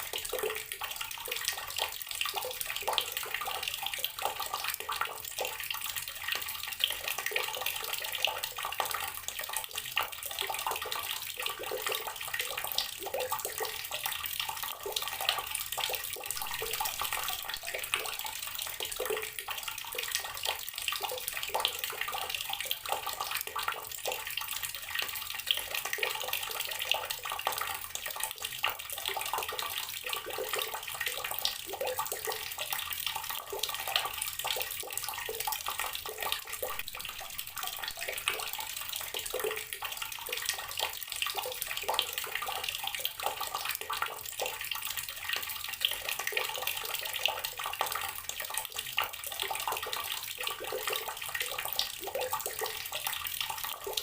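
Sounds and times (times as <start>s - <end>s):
water running from tap splashing: 0.0s - 54.0s.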